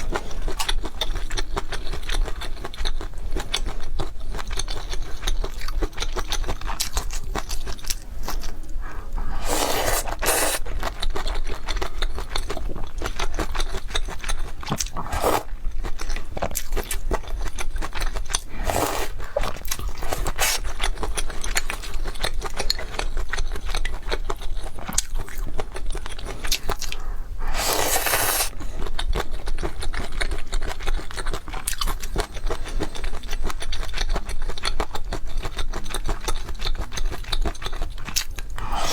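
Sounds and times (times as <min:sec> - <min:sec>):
wet chewing and crunching: 0:00.0 - 0:38.9.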